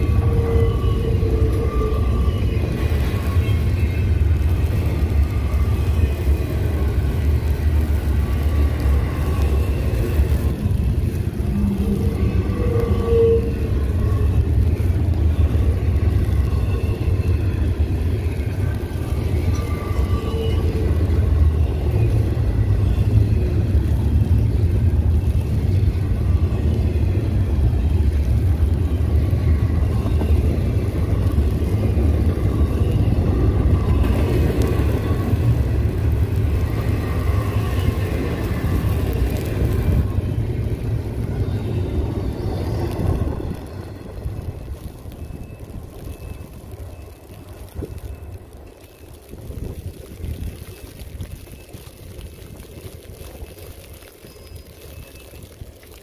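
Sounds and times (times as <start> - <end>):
freight train rumbling past: 0.0 - 55.5.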